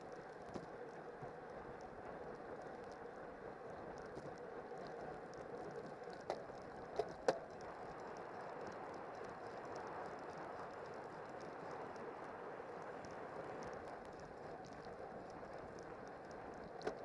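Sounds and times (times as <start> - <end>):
wind and road noise from bicycle: 0.0 - 17.0.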